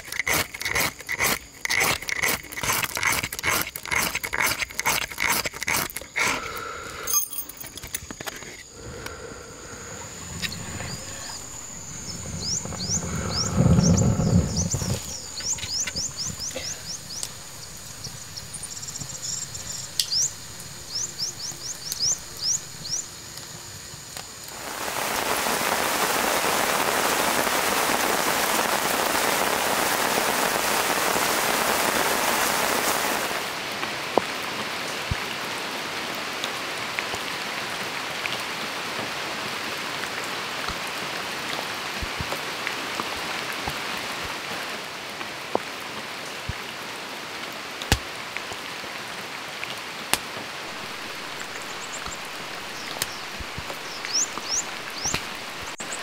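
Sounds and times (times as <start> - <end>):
heavy rain on foliage: 0.0 - 4.8, 5.8 - 56.0.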